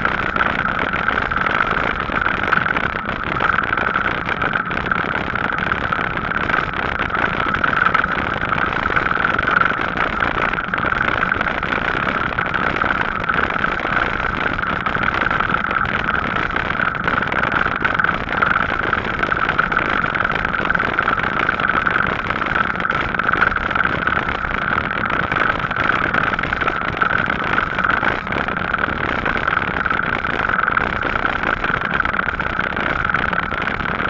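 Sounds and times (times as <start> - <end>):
steady motor hum: 0.0 - 34.0.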